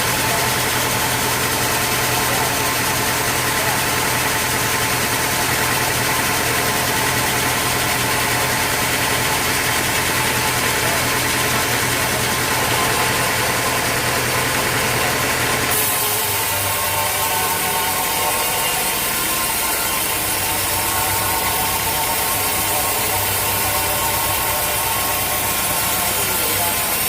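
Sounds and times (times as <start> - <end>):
sawmill machinery humming: 0.0 - 27.0.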